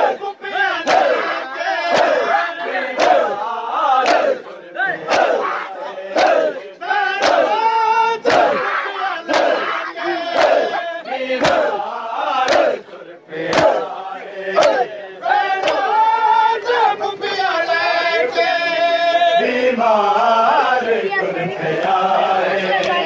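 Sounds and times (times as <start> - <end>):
men chanting: 0.0 - 23.0.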